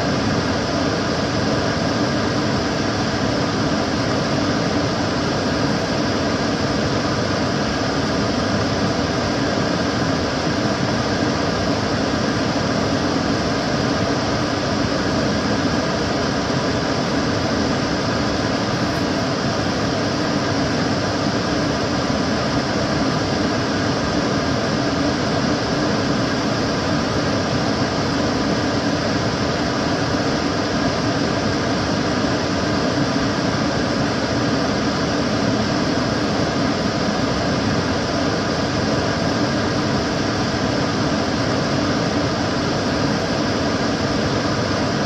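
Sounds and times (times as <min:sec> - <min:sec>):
extractor fan whooshing: 0:00.0 - 0:45.0
faint steady hum: 0:00.0 - 0:45.0.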